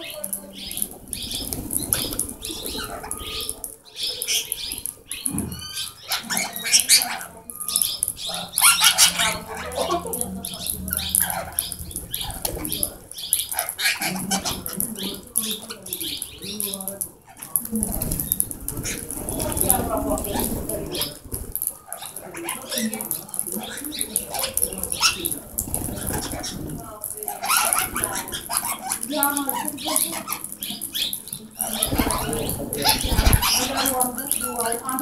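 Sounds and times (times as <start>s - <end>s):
parakeets shrill calls: 0.0s - 35.0s
wing flutters: 0.0s - 35.0s.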